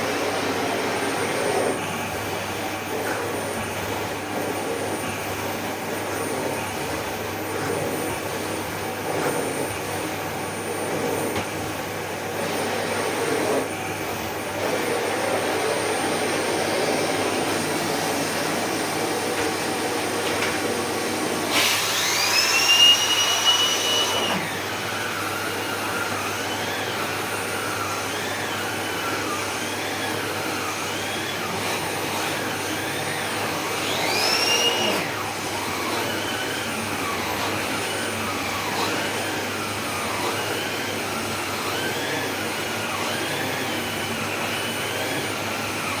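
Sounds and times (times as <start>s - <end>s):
vacuum cleaner on carpet: 0.0s - 46.0s.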